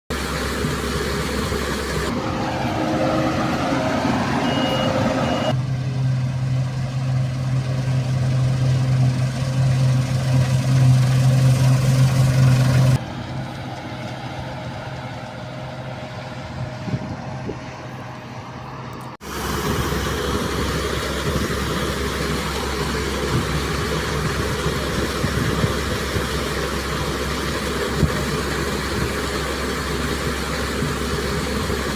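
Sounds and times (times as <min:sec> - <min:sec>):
farm machinery engine hum: 0:00.1 - 0:31.9.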